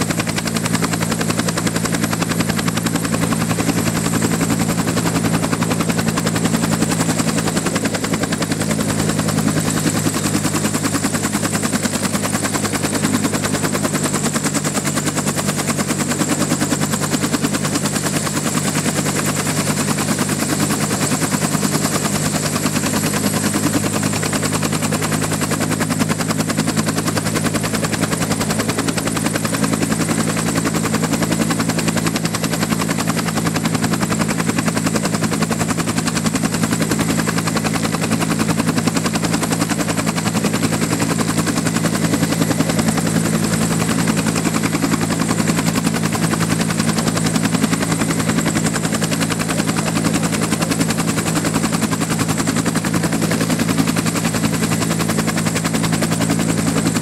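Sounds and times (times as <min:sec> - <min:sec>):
helicopter rotor beat: 0:00.0 - 0:57.0.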